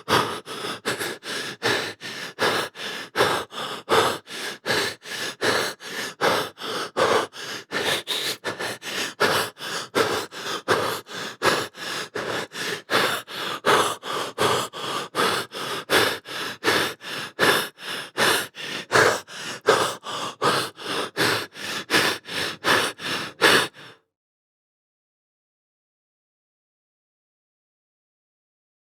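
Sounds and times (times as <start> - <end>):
person breathing fast: 0.0 - 24.1.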